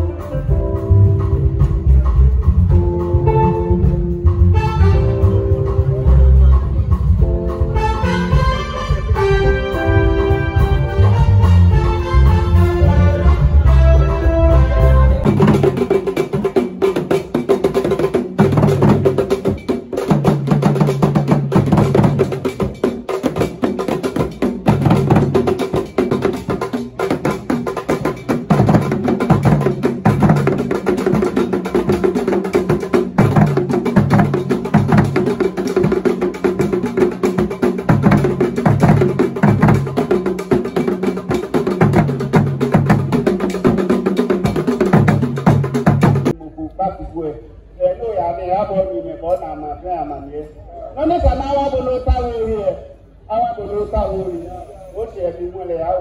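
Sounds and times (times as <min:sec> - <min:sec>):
deep drum notes: 0:00.0 - 0:46.4.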